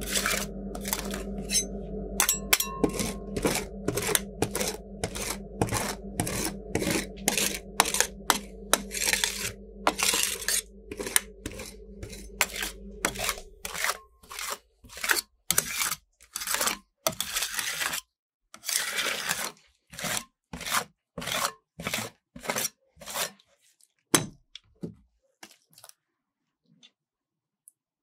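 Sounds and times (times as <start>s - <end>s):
spatulas scraping ice cream: 0.0s - 1.6s, 2.2s - 23.9s.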